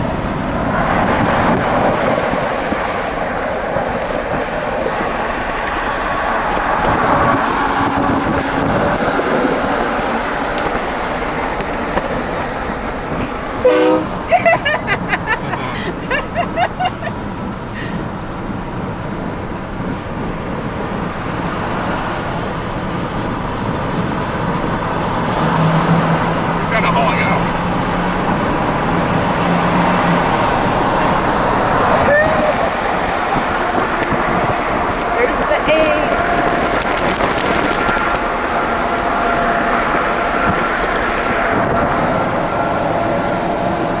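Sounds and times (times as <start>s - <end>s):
car engines: 0.0s - 44.0s
tyres rushing on road: 0.0s - 44.0s
wind: 0.0s - 44.0s.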